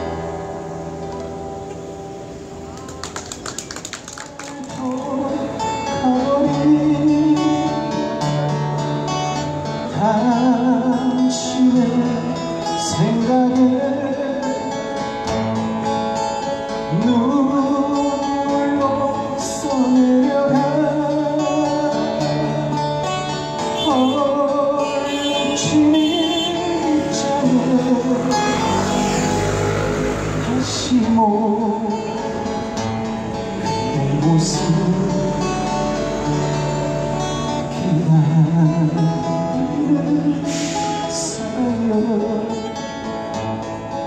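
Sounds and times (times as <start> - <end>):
acoustic guitars playing: 0.0 - 44.0
man singing into a microphone: 4.5 - 8.7, 9.6 - 15.2, 16.8 - 36.7, 37.5 - 43.6.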